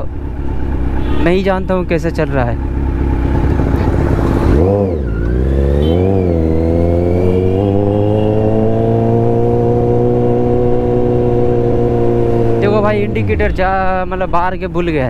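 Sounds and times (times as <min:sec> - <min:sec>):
motorcycle engine revving: 0:00.1 - 0:13.6.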